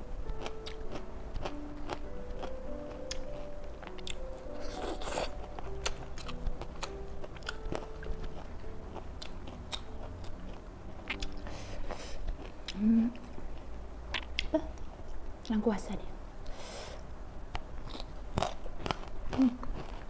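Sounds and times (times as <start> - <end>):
soft piano music: 0.0 - 16.4
crunchy chewing of vegetables: 0.1 - 15.0, 17.6 - 20.0.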